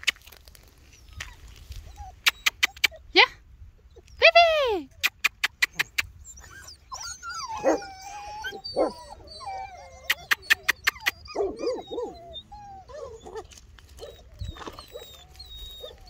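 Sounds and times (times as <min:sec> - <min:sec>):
dogs whining and yipping: 0:00.8 - 0:03.2, 0:04.9 - 0:16.0.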